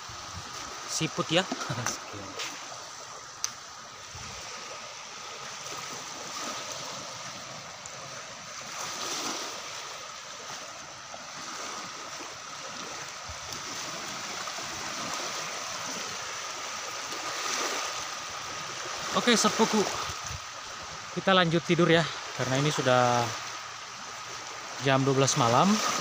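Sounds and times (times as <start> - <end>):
small waves washing onto shore: 0.0 - 26.0.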